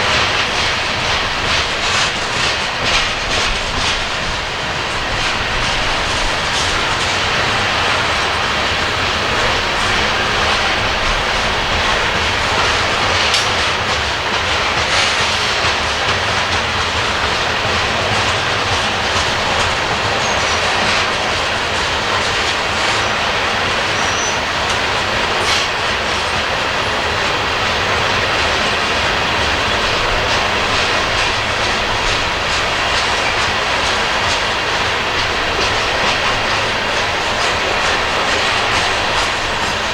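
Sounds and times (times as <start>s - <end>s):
train cars rolling past: 0.0s - 39.9s
wheels clicking over rail joints: 0.0s - 39.9s.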